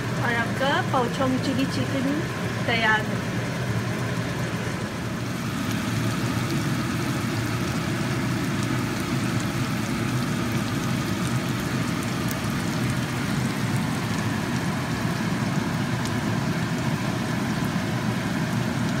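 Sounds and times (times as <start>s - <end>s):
sauce bubbling and sizzling in a wok: 0.0s - 19.0s.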